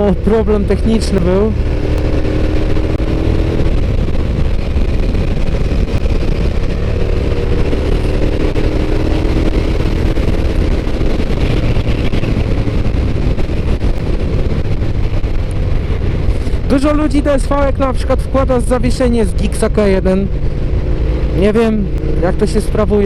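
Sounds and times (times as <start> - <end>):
motorcycle engine cruising: 0.0 - 23.0
wind rumble on microphone: 0.0 - 23.0.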